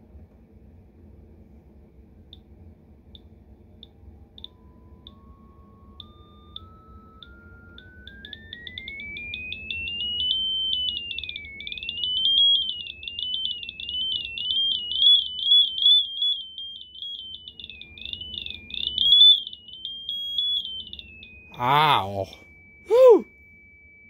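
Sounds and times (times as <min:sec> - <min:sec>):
shrill electronic tone sweeping: 0:04.5 - 0:24.0.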